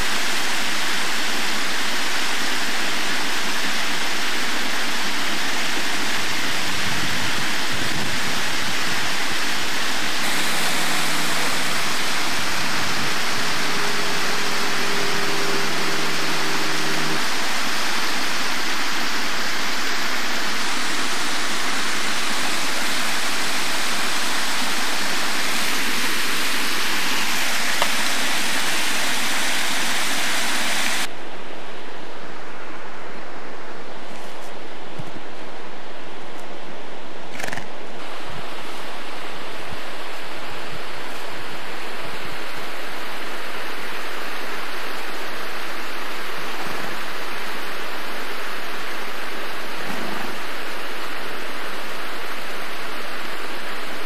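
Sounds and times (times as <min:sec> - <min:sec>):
faint low hums: 0:00.0 - 0:54.0
loud rushing noise: 0:00.0 - 0:54.0.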